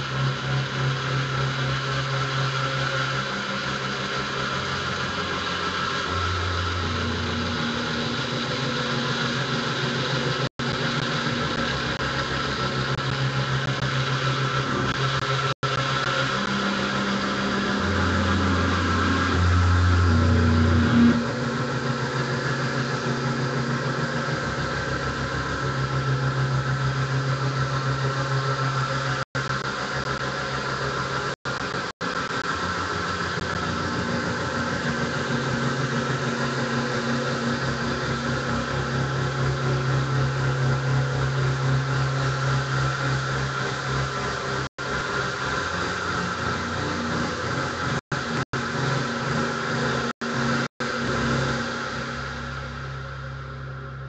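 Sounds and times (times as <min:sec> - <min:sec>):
guitar drone: 0:00.0 - 0:54.0.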